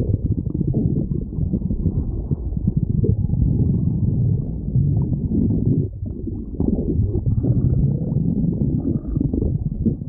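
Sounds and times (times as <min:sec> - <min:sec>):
stomach growling: 0:00.0 - 0:10.0.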